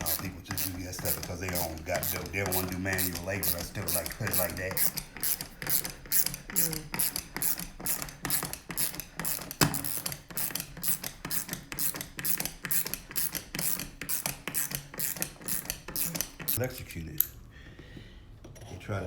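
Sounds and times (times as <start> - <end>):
ratcheting screwdriver clicking: 0.0 - 16.6.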